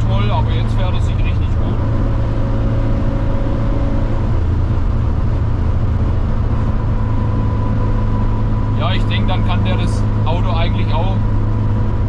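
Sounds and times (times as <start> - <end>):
car engine droning steadily: 0.0 - 12.0.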